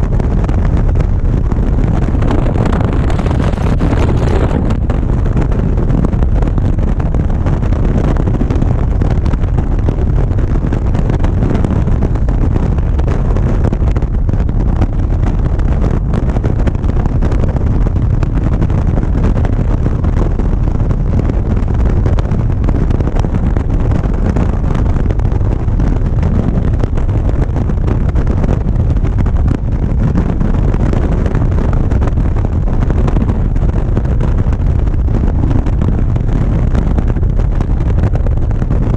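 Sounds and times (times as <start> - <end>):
motorcycle engine rumble: 0.0 - 38.9
wind rush on microphone: 0.0 - 38.9.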